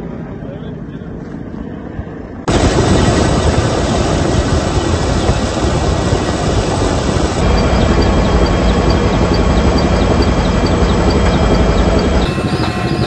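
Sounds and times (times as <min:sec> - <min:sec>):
outdoor background noise: 0:00.0 - 0:12.3
helicopter in flight: 0:00.0 - 0:13.0.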